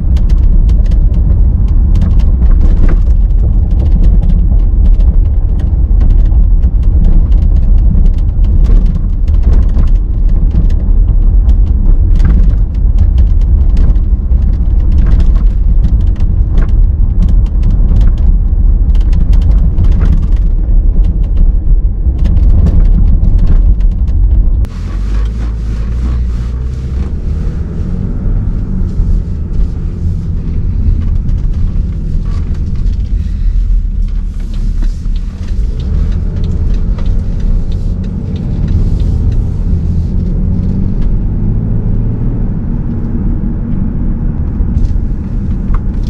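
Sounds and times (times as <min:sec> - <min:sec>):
creaks and clicks of car trim: 0:00.0 - 0:41.4
low road rumble in car: 0:00.0 - 0:46.0.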